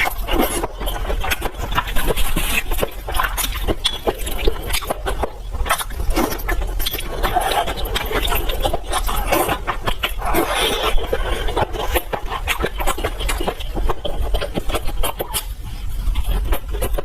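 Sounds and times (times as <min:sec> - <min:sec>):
quick clicks and crackles: 0:00.0 - 0:17.0
wet chewing and slurping: 0:00.0 - 0:17.0.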